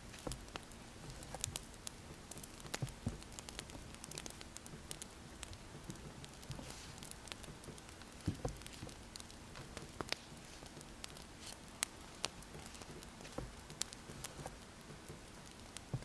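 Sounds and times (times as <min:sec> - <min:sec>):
low steady hiss: 0:00.0 - 0:16.0
wood fire crackling and popping: 0:00.0 - 0:16.0.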